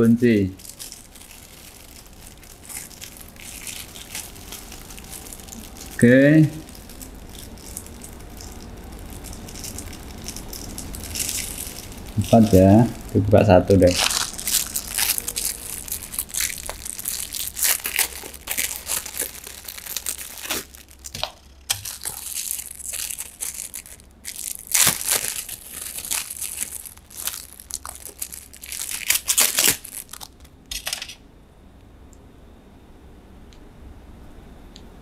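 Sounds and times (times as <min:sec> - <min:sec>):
plastic bag crinkling and tearing: 0:00.0 - 0:31.2.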